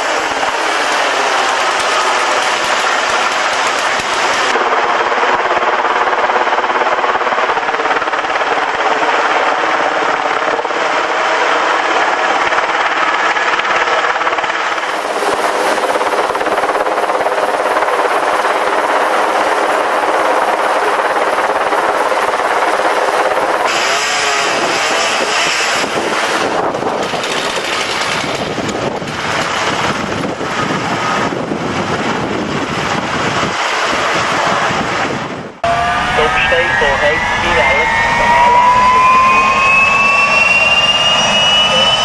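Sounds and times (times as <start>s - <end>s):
helicopter turbine and rotor noise: 0.0s - 42.0s.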